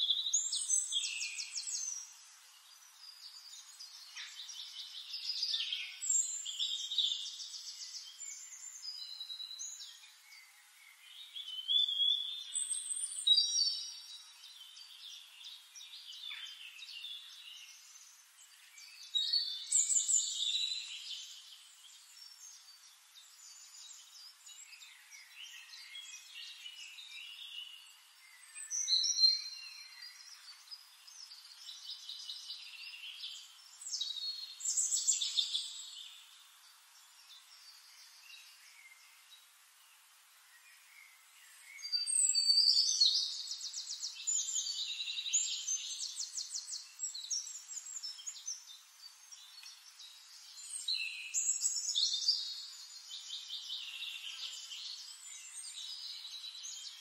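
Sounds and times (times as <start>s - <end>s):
faint steady hiss: 0.0s - 57.0s
small birds singing: 0.0s - 57.0s.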